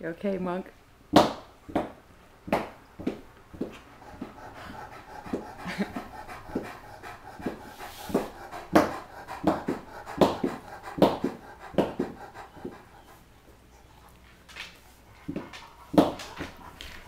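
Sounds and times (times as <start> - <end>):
dog panting: 3.0 - 17.0.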